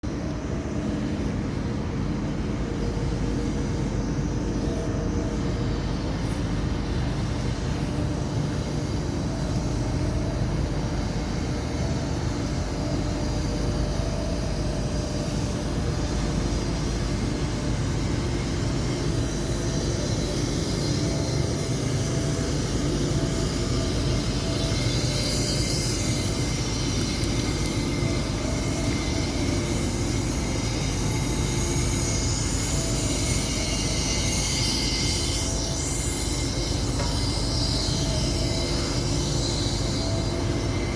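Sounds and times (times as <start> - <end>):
crane engine droning: 0.0 - 40.9
high hiss or whine: 0.1 - 40.9.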